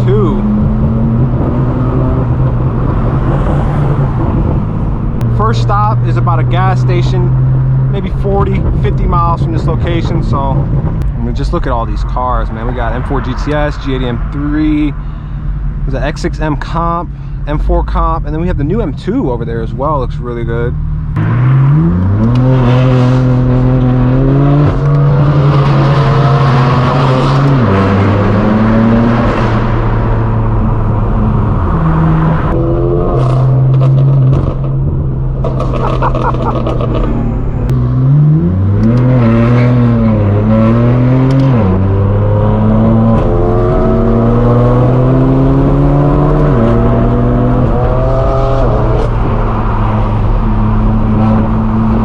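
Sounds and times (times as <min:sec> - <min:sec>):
car exhaust accelerating: 0:00.0 - 0:52.0.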